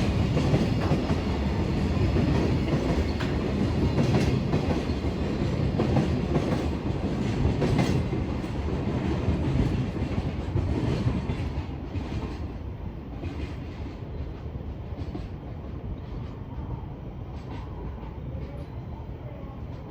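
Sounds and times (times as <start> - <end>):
freight train rumbling past: 0.0 - 19.9.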